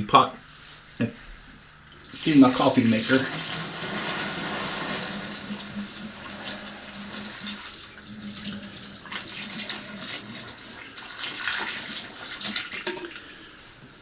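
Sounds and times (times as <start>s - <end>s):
water running and splashing: 1.9s - 13.3s.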